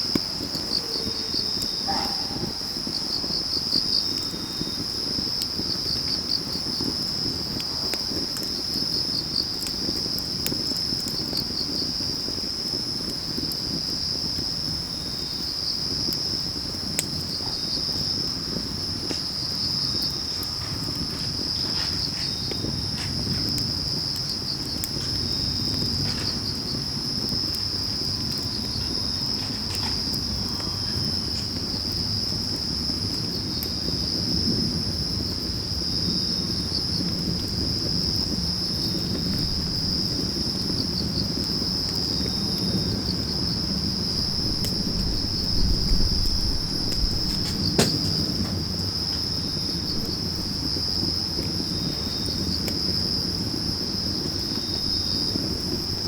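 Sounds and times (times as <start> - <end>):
crickets trilling: 0.0 - 56.0
wood fire crackling: 0.0 - 56.0.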